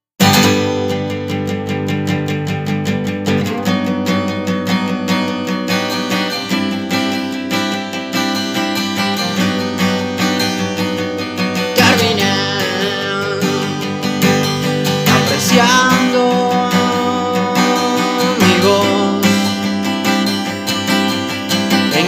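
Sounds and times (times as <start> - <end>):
strummed acoustic guitar: 0.2 - 22.0.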